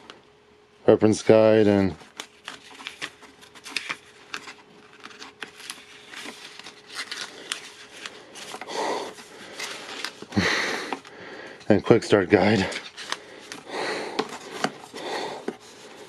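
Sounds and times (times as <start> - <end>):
paper rustling: 1.5 - 11.2, 12.3 - 16.0.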